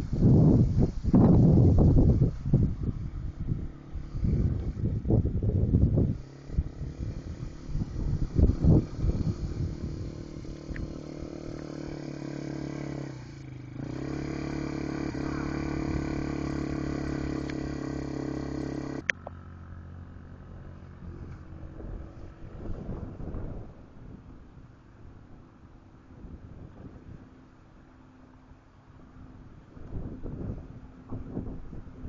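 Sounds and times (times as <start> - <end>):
small engine running: 0.0 - 32.0
wind: 0.0 - 32.0.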